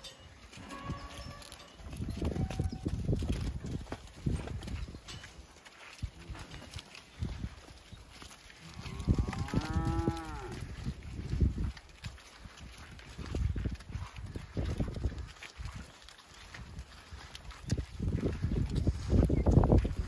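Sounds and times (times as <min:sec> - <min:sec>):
hooves thudding on dirt: 0:00.0 - 0:20.0.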